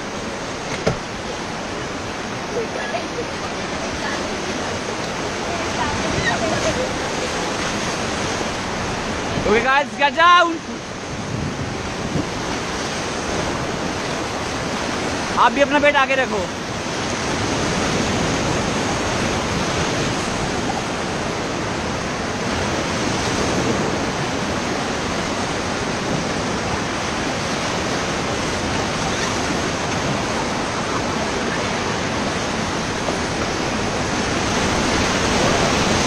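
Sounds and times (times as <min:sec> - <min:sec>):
whitewater rapids rushing: 0:00.0 - 0:36.0.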